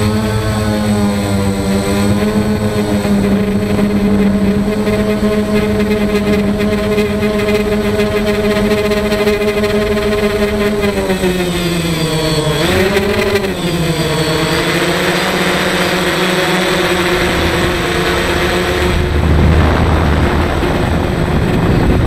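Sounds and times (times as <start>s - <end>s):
drone propellers droning: 0.0s - 22.0s
thin high whine: 1.8s - 22.0s.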